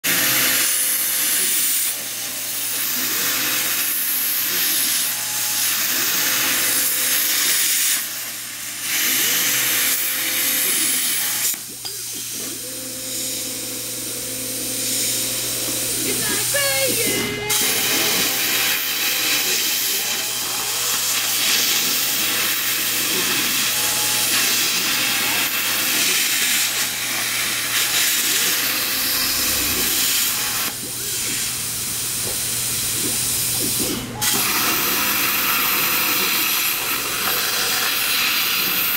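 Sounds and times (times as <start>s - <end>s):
plasma cutting arc hiss: 0.1s - 13.8s, 14.6s - 38.9s.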